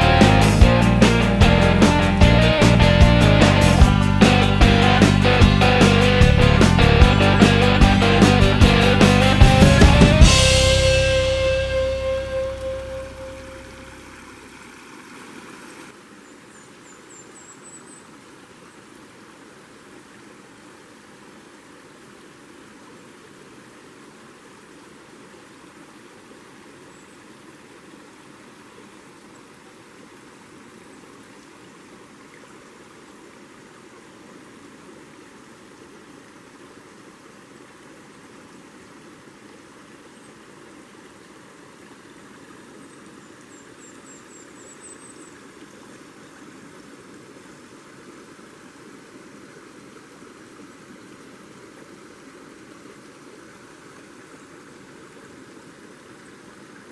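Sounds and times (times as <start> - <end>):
creek water flowing: 0.0 - 56.9.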